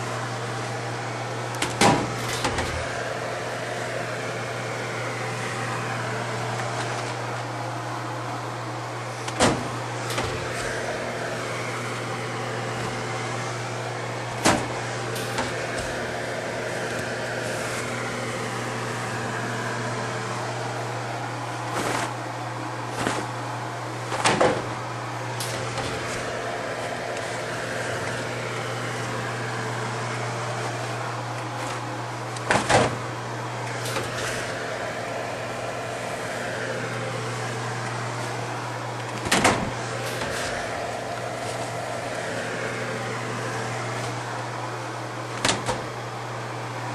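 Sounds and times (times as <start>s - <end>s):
laundry machine humming: 0.0s - 46.9s.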